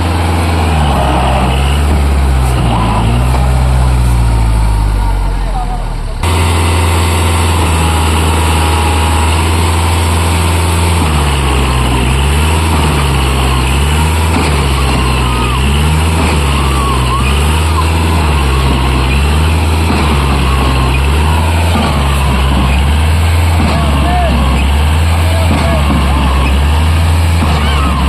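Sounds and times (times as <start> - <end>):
tractor diesel engine labouring: 0.0 - 28.0.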